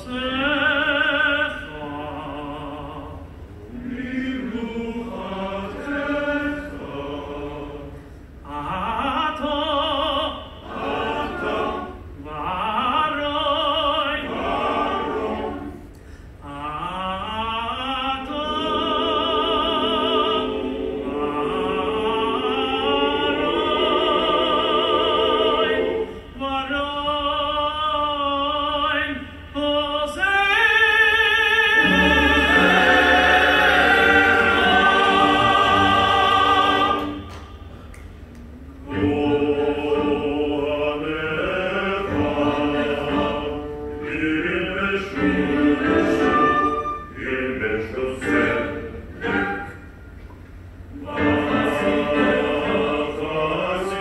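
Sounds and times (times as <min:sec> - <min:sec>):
male choir singing: 0:00.0 - 0:15.8, 0:16.5 - 0:26.8, 0:30.3 - 0:37.3, 0:38.8 - 0:49.8, 0:51.0 - 0:54.0.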